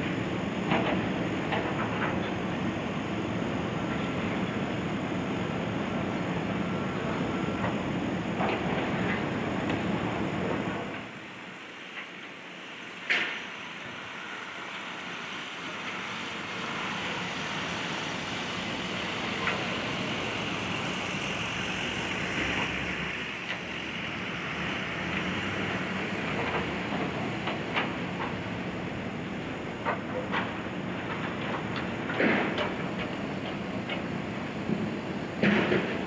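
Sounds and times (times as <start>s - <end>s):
diesel excavator engine running: 0.0s - 36.0s.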